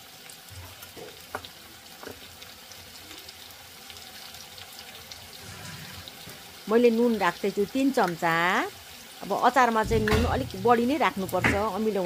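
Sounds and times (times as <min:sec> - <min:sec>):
fruit sizzling in oil: 0:00.0 - 0:12.0.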